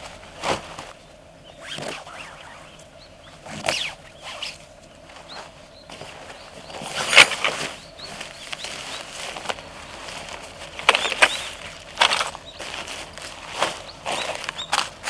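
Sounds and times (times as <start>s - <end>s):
bags rustling and crinkling: 0.0s - 1.0s, 1.6s - 15.0s.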